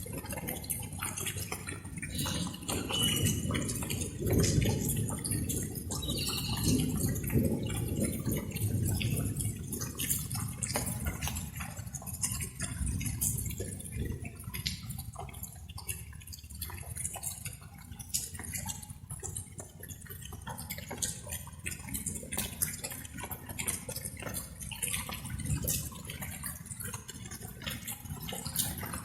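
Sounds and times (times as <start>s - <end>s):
light rain dripping: 0.0s - 29.0s.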